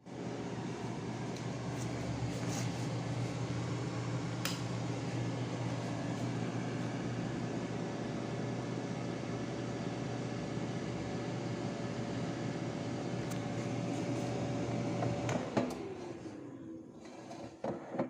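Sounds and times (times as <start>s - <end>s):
air fryer fan humming: 0.0s - 17.4s.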